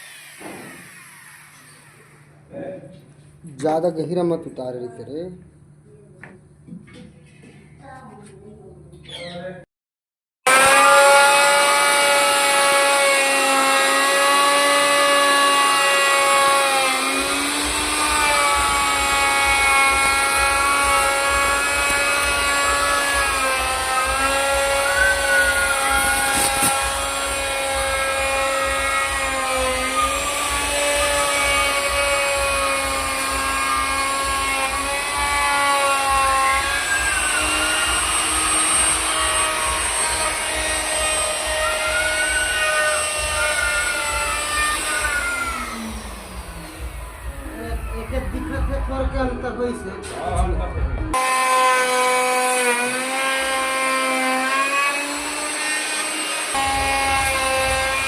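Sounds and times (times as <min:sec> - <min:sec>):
power tool whining: 0:00.0 - 0:02.5, 0:10.5 - 0:48.8, 0:51.1 - 0:58.0.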